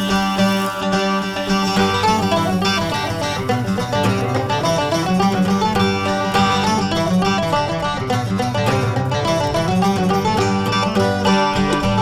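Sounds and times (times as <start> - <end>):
lively instrumental music: 0.0 - 12.0.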